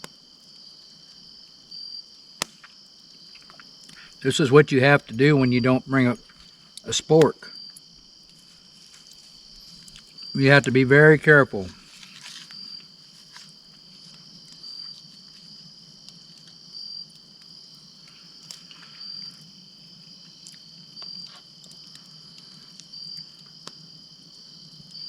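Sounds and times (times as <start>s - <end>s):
insect chirping: 0.0s - 25.0s
high-pitched insect chorus: 0.3s - 25.0s.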